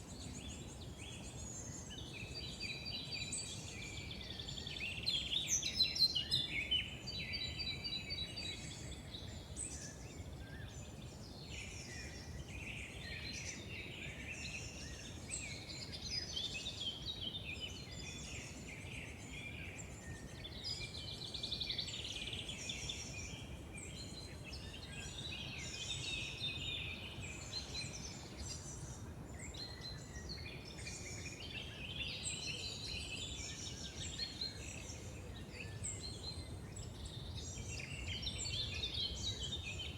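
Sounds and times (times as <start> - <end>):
low outdoor hiss: 0.0 - 39.9
songbirds singing and chirping: 0.0 - 39.9.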